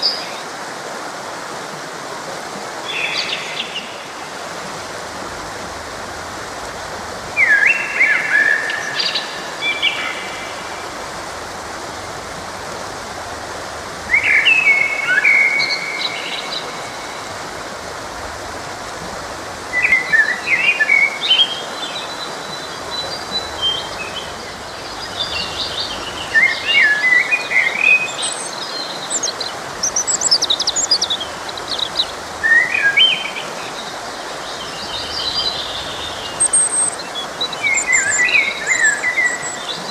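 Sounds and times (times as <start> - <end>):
forest stream rushing: 0.0 - 39.9
songbirds singing: 2.8 - 39.9.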